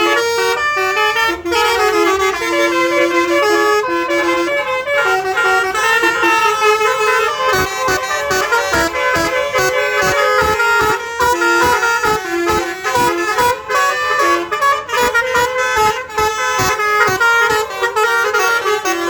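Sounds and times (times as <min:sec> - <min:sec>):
musical air horn tune: 0:00.0 - 0:19.0.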